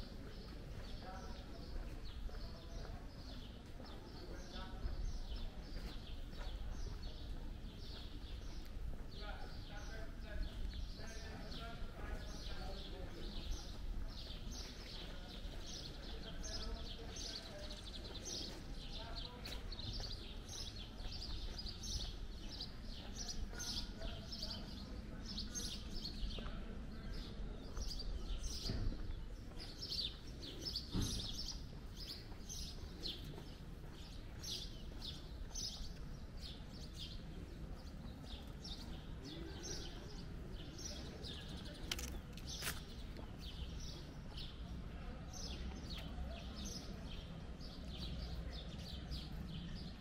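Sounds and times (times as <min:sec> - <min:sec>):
small birds chirping: 0:00.0 - 0:50.0
street noise hum: 0:00.0 - 0:50.0.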